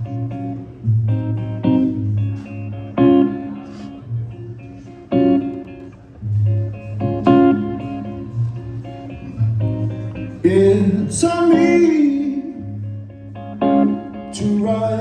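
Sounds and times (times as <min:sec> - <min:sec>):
low bass: 0:00.0 - 0:05.4, 0:06.2 - 0:15.0
guitar chords ringing: 0:00.0 - 0:15.0.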